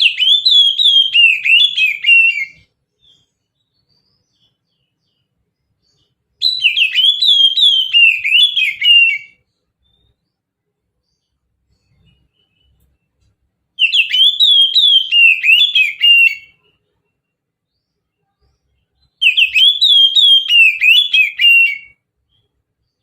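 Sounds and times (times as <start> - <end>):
bird singing whistled notes: 0.0 - 10.4, 11.0 - 13.0, 13.8 - 23.0.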